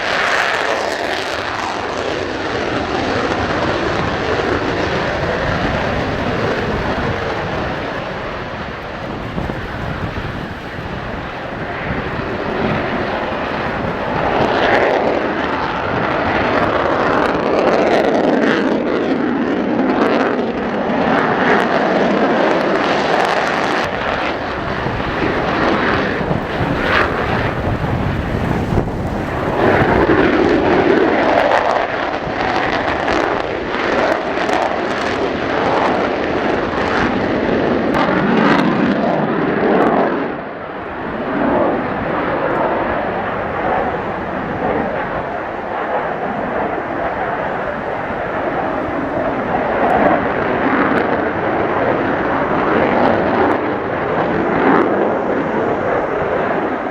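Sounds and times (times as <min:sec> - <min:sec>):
jet fighters taking off: 0:00.0 - 0:56.9
steady jet engine blast: 0:00.0 - 0:56.9.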